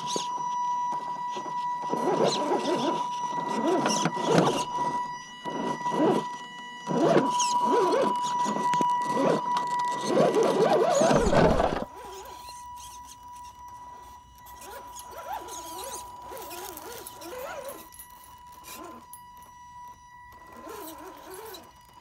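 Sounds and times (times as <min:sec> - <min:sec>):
electric motor and gears whining: 0:00.0 - 0:22.0
high electronic whine: 0:00.0 - 0:22.0.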